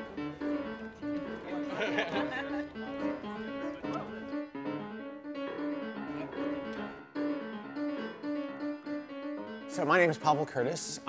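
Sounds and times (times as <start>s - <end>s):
solo piano melody: 0.0s - 11.0s.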